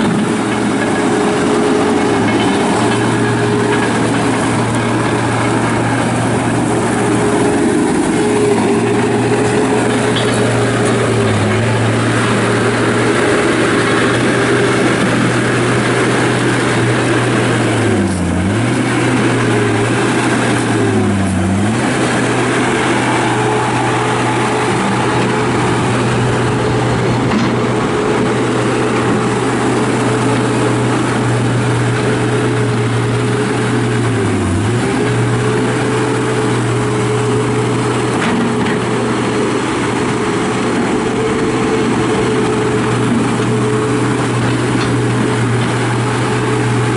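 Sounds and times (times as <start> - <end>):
diesel engine at high revs: 0.0 - 46.9.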